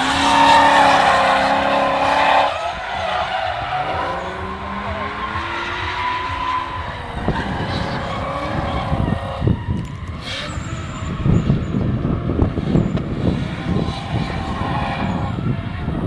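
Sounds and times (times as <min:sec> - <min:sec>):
car engine rumbling with cracks: 0:00.0 - 0:16.0.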